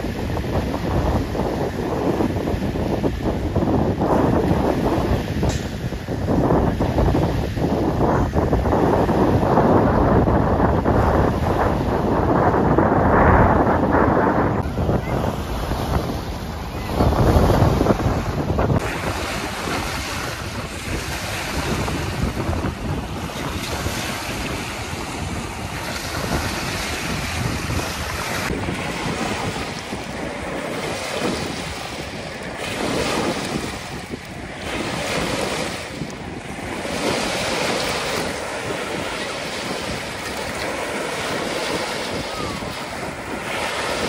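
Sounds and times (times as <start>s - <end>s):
waves washing on sandy shore: 0.0s - 44.0s
wind buffeting microphone: 0.0s - 44.0s.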